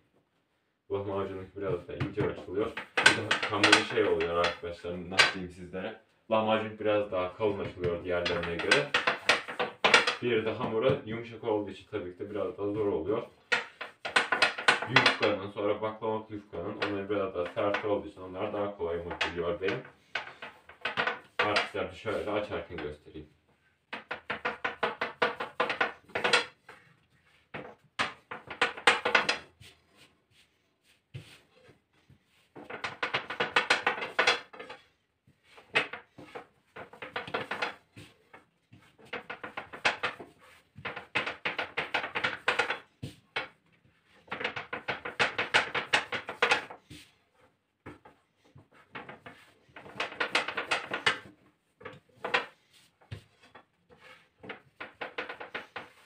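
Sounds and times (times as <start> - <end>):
rolling pin clattering on countertop: 1.7 - 4.6, 5.2 - 5.4, 7.6 - 11.0, 13.3 - 15.4, 16.6 - 23.0, 23.9 - 29.7, 31.1 - 47.1, 47.8 - 56.0.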